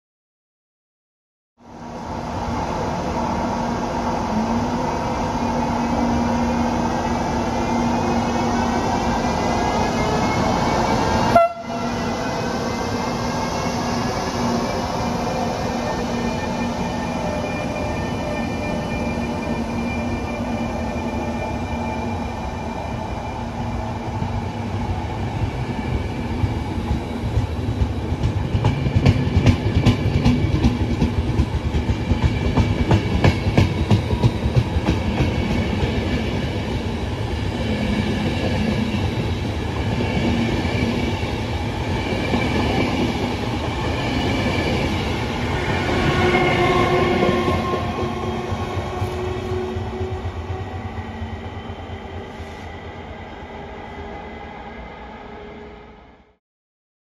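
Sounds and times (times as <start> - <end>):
train rumbling: 1.7 - 56.4.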